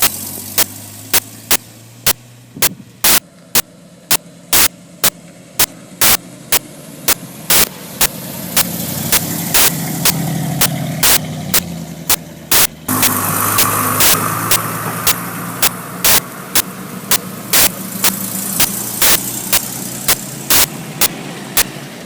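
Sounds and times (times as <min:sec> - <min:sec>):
sharp clicks: 0:00.0 - 0:21.8
car engine idling: 0:00.0 - 0:22.0.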